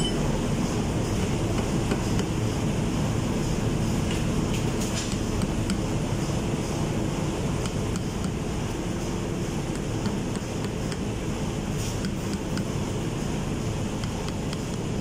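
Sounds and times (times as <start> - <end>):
engine room machinery drone: 0.0 - 15.0.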